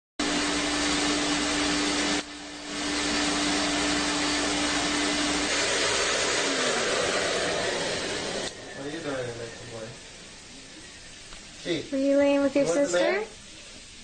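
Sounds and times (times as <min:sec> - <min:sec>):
vacuum cleaner running: 0:00.2 - 0:14.0.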